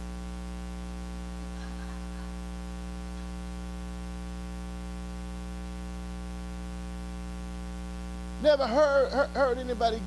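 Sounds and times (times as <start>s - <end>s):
buzzing mains hum: 0.0s - 10.0s.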